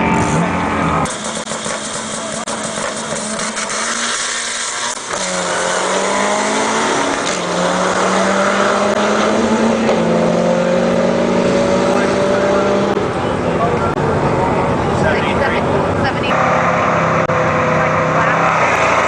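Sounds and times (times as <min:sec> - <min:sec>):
engine revving under full throttle: 0:00.0 - 0:13.2, 0:16.2 - 0:19.0.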